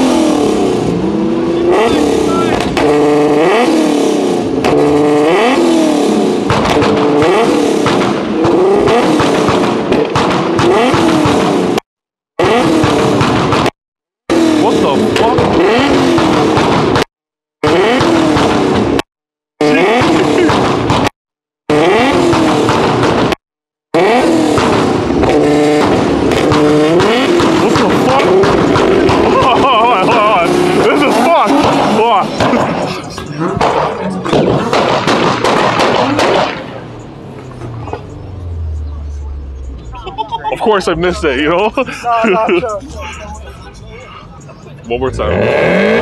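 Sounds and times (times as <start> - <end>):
car engine revving: 0.0 - 11.8, 12.4 - 21.1, 21.7 - 46.0
exhaust popping and crackling: 0.0 - 11.8, 12.4 - 43.8.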